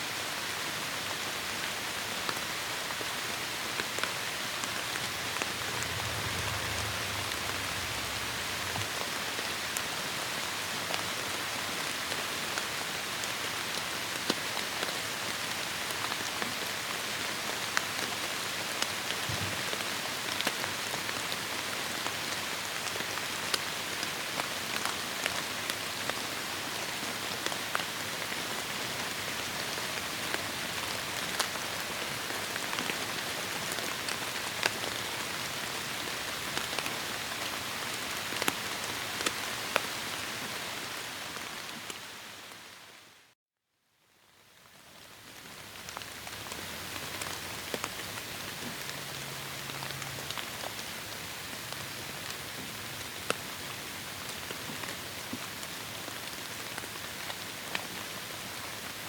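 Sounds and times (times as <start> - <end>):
heavy rain on foliage: 0.0 - 43.3, 44.1 - 59.0.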